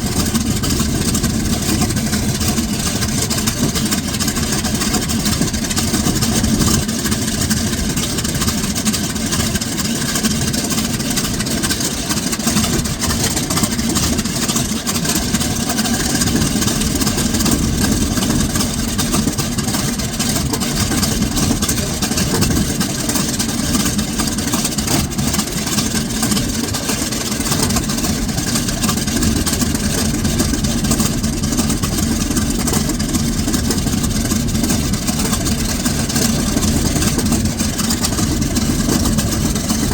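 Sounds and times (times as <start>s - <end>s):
aircraft radial engine running: 0.0s - 39.9s.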